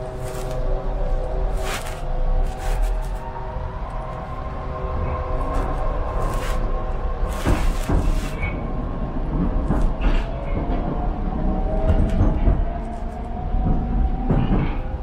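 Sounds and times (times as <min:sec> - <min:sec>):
train wheels rumbling on rails: 0:00.0 - 0:15.0
train whine: 0:00.0 - 0:15.0.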